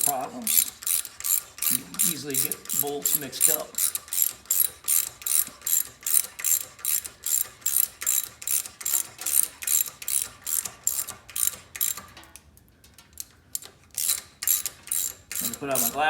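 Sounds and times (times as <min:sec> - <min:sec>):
ratchet wrench clicking: 0:00.0 - 0:12.2, 0:13.2 - 0:16.0.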